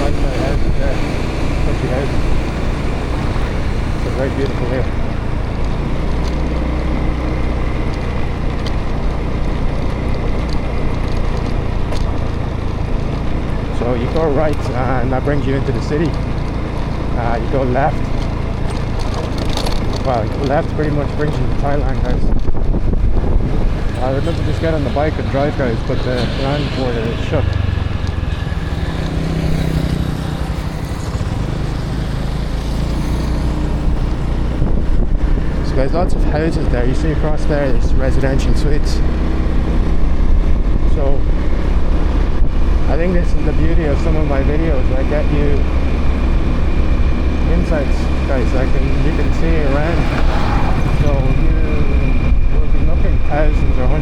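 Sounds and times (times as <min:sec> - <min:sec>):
motorbike engine running: 0:00.0 - 0:54.0
road noise: 0:00.0 - 0:54.0.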